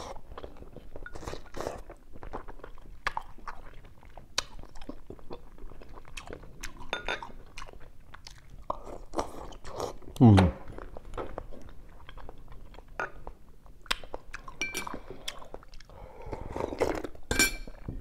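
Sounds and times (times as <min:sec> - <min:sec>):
person chewing and eating: 0:00.0 - 0:17.9.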